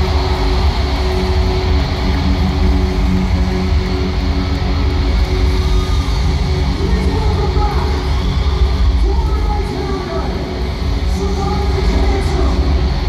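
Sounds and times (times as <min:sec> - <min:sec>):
live band with electric guitar: 0:00.0 - 0:13.0.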